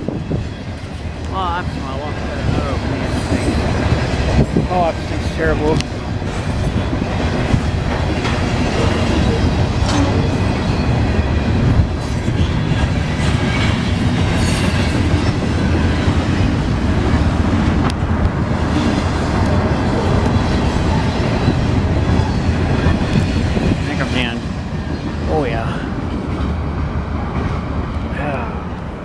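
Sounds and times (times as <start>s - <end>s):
wheels clacking over rail joints: 0.0s - 25.3s
train cars rumbling past: 0.0s - 29.0s.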